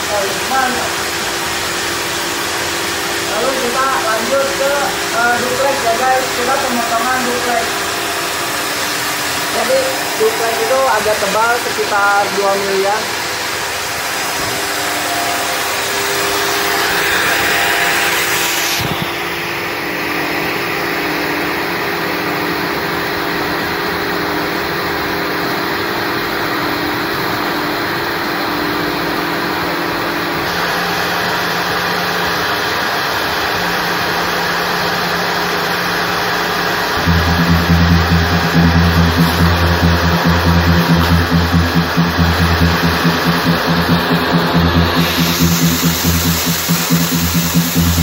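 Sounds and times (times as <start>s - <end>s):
table saw motor running: 0.0s - 48.0s.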